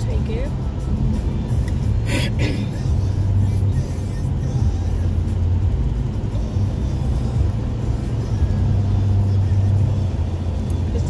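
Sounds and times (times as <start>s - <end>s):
engine and tyre hum: 0.0s - 11.0s.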